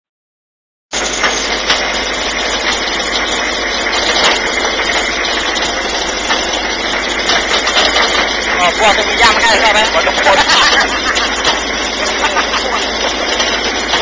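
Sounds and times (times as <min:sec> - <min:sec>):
engine running steadily: 0:00.9 - 0:14.0.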